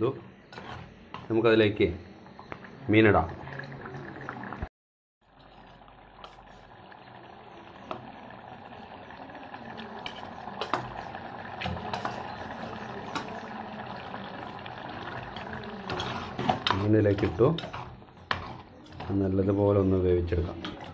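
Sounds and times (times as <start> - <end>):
thick curry bubbling: 0.3 - 20.9.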